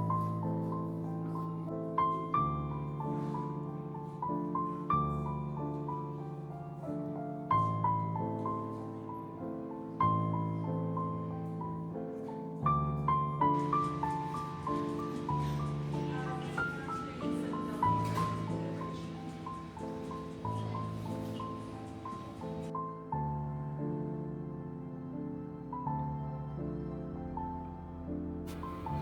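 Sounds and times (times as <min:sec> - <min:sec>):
gentle piano melody: 0:00.0 - 0:29.0.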